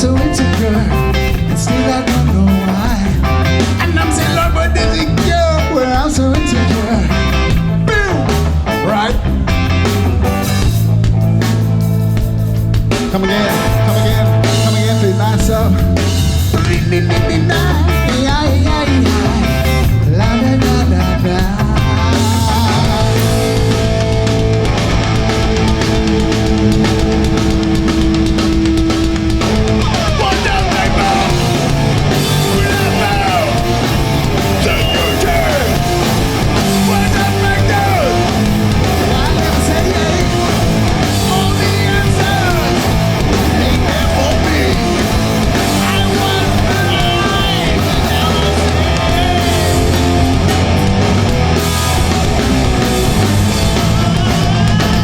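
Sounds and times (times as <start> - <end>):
bass guitar: 0.0 - 55.0
distorted electric guitars: 0.0 - 55.0
drums: 0.0 - 55.0.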